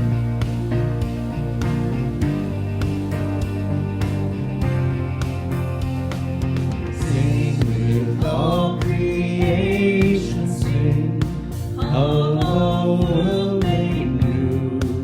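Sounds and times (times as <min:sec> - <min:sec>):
worship song with instruments: 0:00.0 - 0:15.0.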